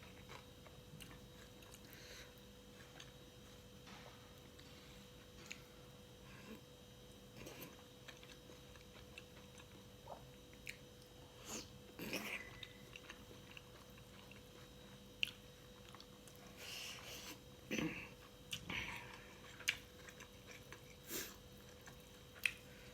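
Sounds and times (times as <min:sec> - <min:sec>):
chewing and biting food: 0:00.0 - 0:05.7, 0:07.3 - 0:11.2, 0:11.9 - 0:16.6, 0:17.2 - 0:22.9.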